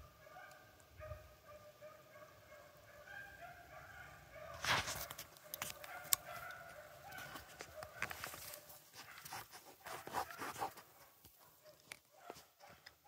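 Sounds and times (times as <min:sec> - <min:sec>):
faint hounds baying: 0:00.0 - 0:13.0.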